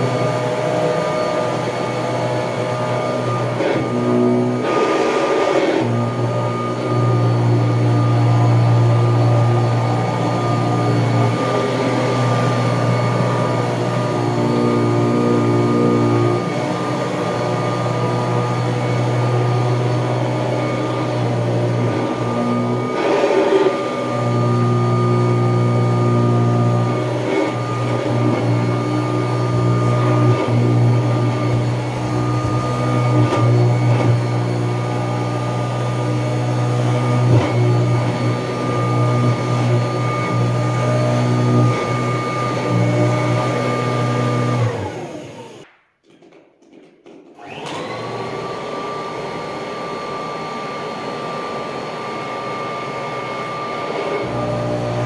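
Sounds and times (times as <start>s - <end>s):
vacuum cleaner motor whine: 0.0s - 45.7s, 47.4s - 55.0s.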